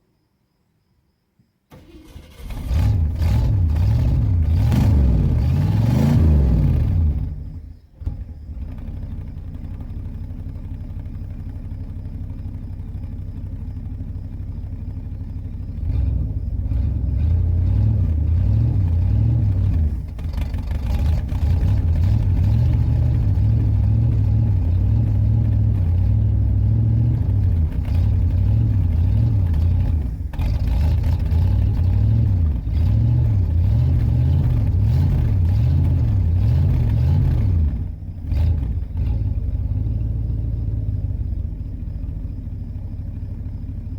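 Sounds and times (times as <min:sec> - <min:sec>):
car engine rumbling: 0:01.7 - 0:43.9.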